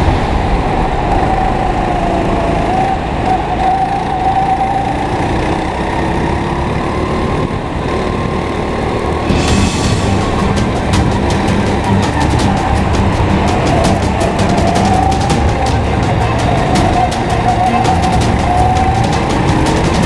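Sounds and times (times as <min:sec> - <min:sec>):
go-kart engine running: 0:00.0 - 0:20.0.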